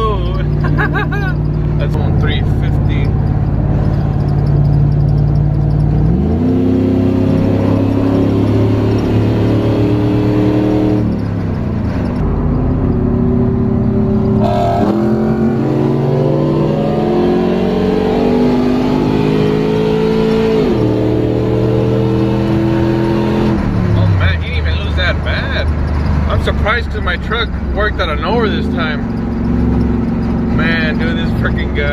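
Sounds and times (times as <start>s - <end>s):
car engine accelerating hard: 0.0s - 31.9s.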